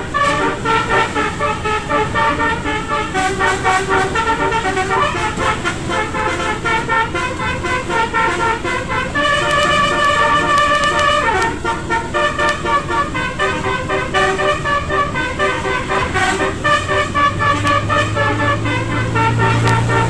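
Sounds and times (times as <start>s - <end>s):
low engine hum: 0.0s - 20.0s
multi-tone horn melody: 0.0s - 20.0s.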